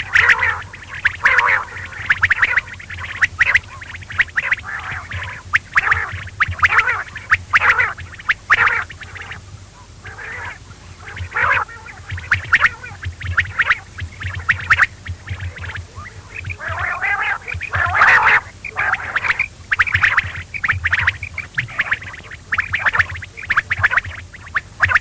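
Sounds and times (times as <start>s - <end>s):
quail calling: 0.0s - 25.0s
steady low hum: 0.0s - 25.0s.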